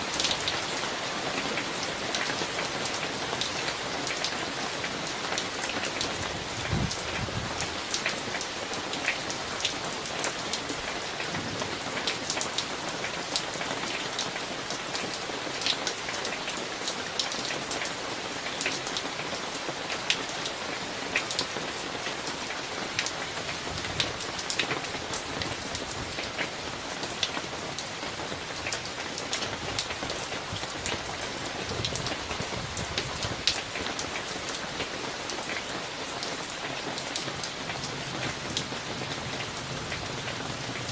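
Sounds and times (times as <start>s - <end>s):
steady rain: 0.0s - 40.9s
raindrops ticking on a surface: 0.1s - 40.9s.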